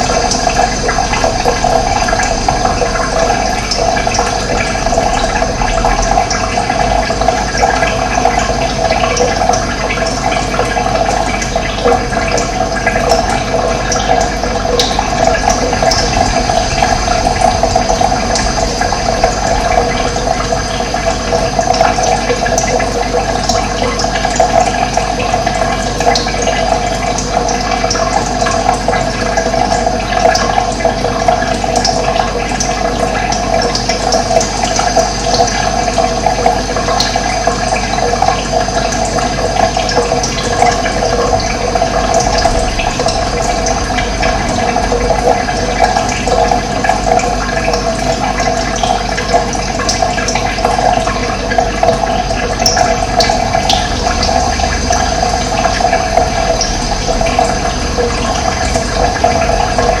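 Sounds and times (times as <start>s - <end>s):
water rushing: 0.0s - 60.0s.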